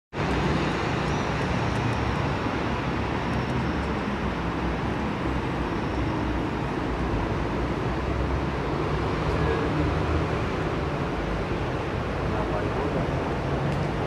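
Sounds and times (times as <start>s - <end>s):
city traffic hum: 0.1s - 14.0s.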